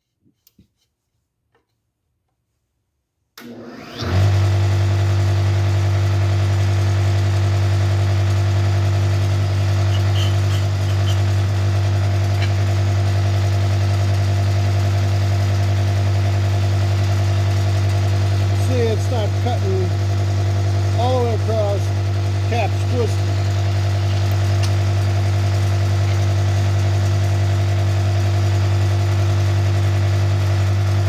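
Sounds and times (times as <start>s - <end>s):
cutter switched on: 3.4s - 31.0s
electric motor spinning up and humming: 3.4s - 31.0s.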